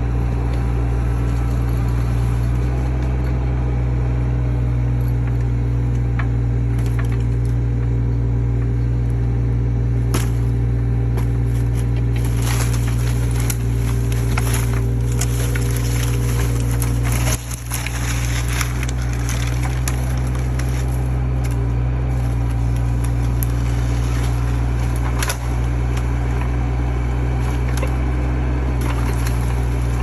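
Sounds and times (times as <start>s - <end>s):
excavator engine running: 0.0s - 30.0s
wood and brush crackling: 0.0s - 30.0s.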